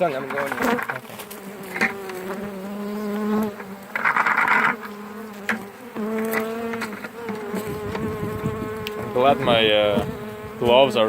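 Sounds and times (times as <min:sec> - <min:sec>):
scratchy rustle: 0:00.0 - 0:10.8
honeybees buzzing: 0:00.0 - 0:11.0.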